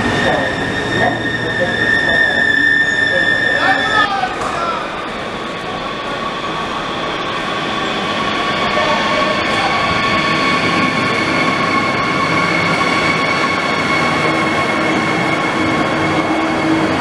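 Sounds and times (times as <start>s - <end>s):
high-pitched wheel squeal: 0.0s - 17.0s
train wheels rumbling on rail: 0.0s - 17.0s.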